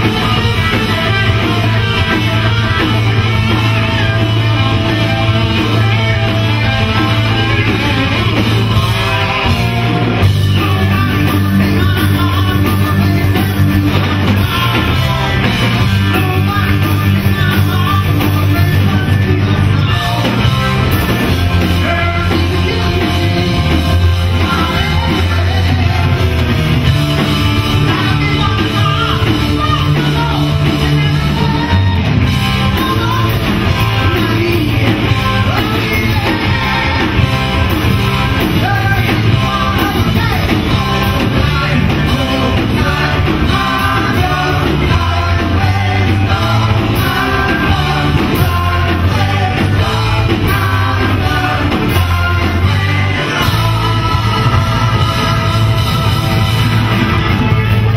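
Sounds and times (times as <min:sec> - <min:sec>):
bass guitar: 0:00.0 - 0:57.9
drums: 0:00.0 - 0:57.9
electric guitars: 0:00.0 - 0:57.9
male lead singer: 0:00.0 - 0:57.9.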